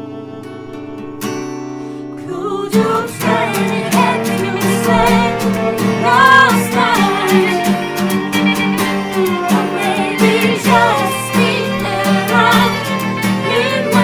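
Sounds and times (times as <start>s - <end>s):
lead guitar: 0.0s - 14.0s
strummed rhythm guitar: 0.0s - 14.0s
viola: 0.0s - 14.0s
voices singing: 2.1s - 14.0s.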